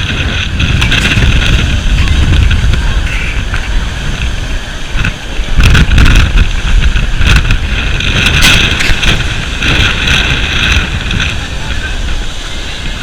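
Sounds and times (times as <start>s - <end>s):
rough sea: 0.0s - 13.0s
wind blowing on microphone: 0.0s - 13.0s.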